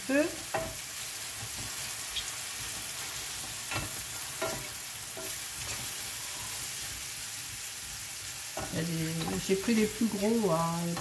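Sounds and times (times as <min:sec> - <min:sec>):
mushrooms sizzling in butter: 0:00.0 - 0:11.0.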